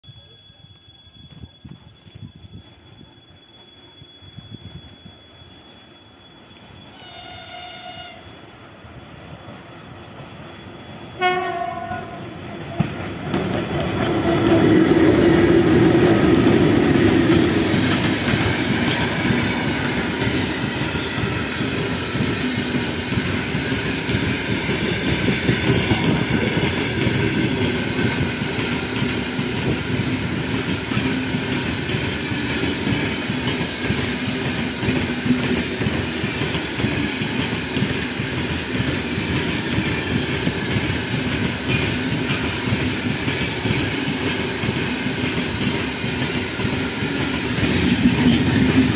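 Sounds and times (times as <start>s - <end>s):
electric locomotive passing: 0.1s - 48.9s.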